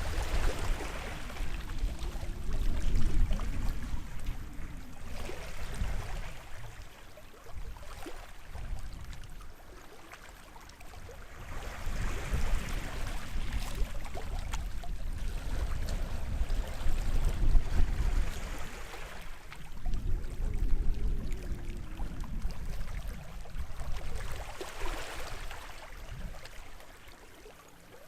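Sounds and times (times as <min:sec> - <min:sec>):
small waves washing onto shore: 0:00.0 - 0:28.0
water crackling over beach: 0:00.0 - 0:28.0.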